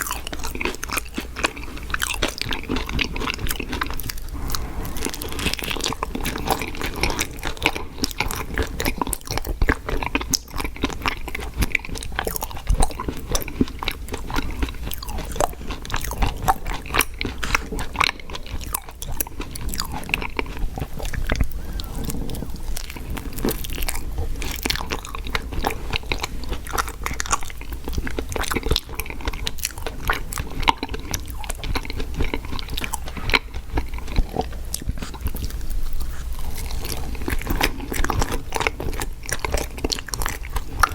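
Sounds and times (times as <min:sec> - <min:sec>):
chewing and crunching food: 0:00.0 - 0:40.9.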